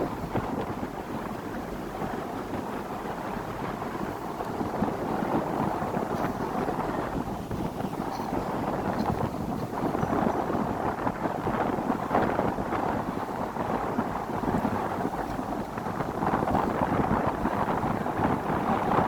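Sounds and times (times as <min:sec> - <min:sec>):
wind and water rushing: 0:00.0 - 0:19.0
wind buffeting microphone: 0:00.0 - 0:19.0.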